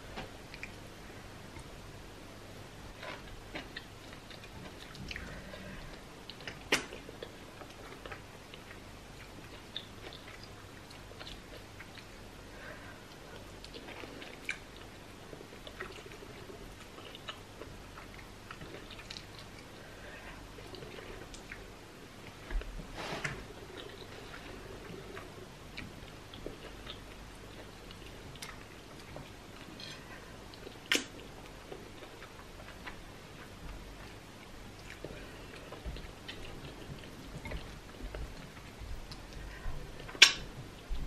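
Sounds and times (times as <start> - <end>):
close chewing and mouth sounds: 0.0 - 41.0.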